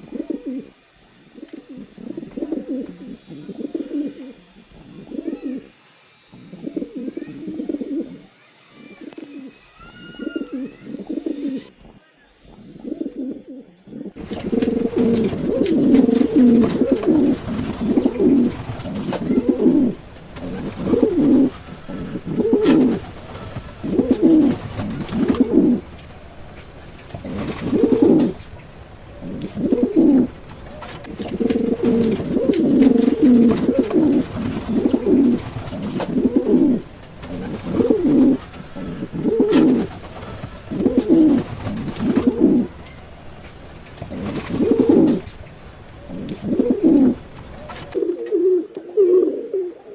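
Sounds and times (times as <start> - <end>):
pigeons cooing: 0.0 - 5.7, 6.3 - 11.7, 12.6 - 49.9.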